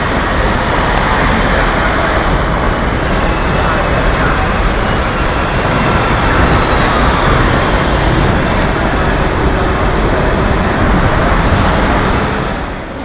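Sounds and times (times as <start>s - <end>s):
machinery and air rushing: 0.0s - 13.0s.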